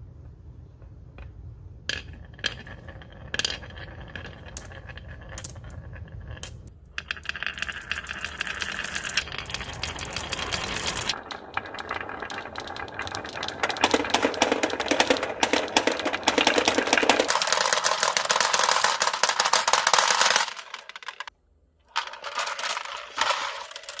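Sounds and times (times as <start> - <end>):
marbles rolling and clattering: 0.7 - 24.0.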